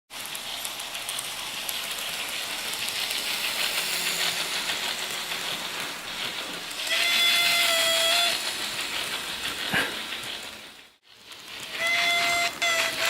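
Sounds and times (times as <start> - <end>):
steam hissing: 0.1 - 13.0.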